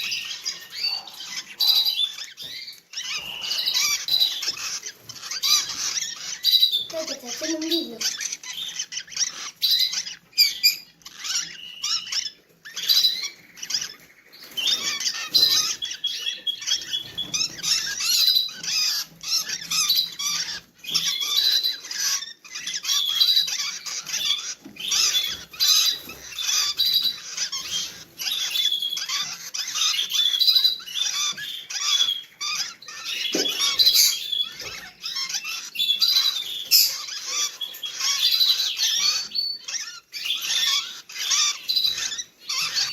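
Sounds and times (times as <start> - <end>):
lovebirds chattering: 0.0 - 42.9.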